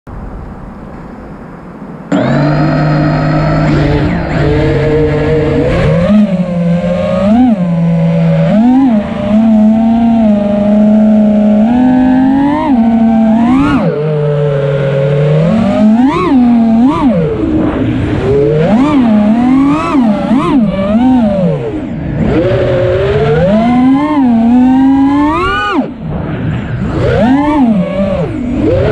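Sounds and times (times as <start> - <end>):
quadcopter motors whining: 2.1 - 28.9.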